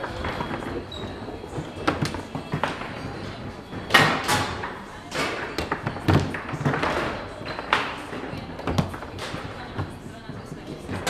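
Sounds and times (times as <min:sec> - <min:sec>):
foosball ball cracking off players: 0:00.0 - 0:11.0.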